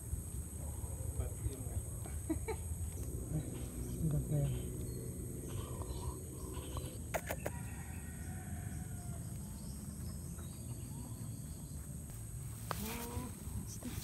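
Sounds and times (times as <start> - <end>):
low wind rumble: 0.0 - 12.6
insects droning: 0.0 - 14.0
distant bird calls: 0.8 - 12.1.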